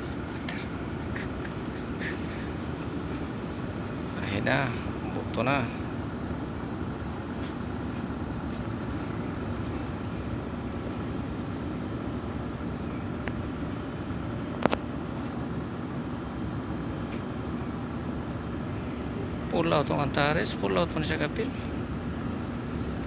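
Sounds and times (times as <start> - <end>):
ship engine rumbling: 0.0 - 23.0.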